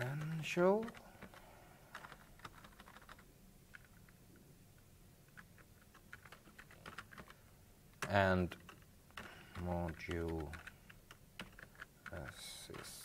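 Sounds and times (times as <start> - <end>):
faint keyboard typing: 0.0 - 13.0.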